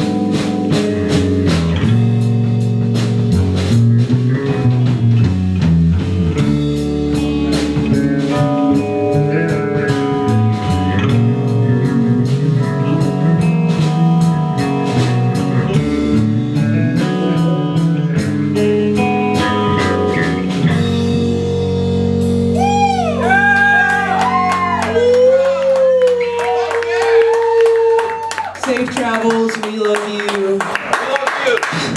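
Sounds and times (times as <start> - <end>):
rock band playing live: 0.0 - 30.6.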